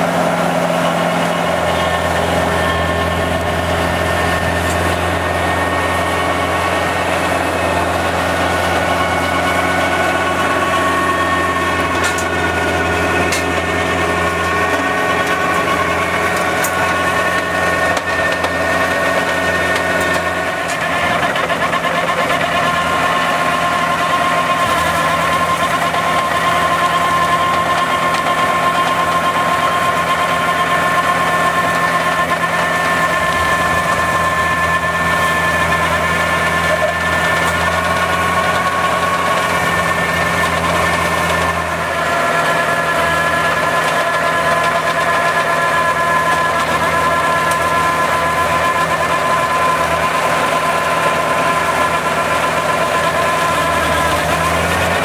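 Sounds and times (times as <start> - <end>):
mulcher shredding brush: 0.0 - 55.0
tractor engine under load: 0.0 - 55.0.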